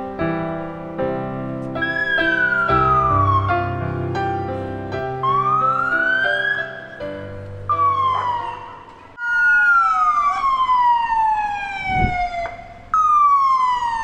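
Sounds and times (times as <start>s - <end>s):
emergency siren falling sweeps: 1.8s - 14.0s.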